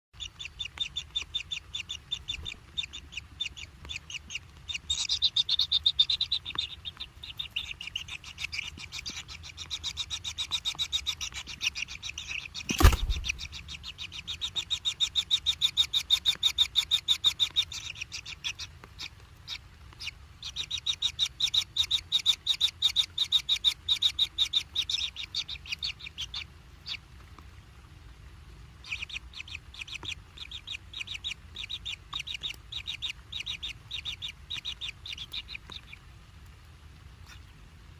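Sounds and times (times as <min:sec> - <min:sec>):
nestlings begging chirps: 0:00.2 - 0:27.0, 0:28.8 - 0:36.0.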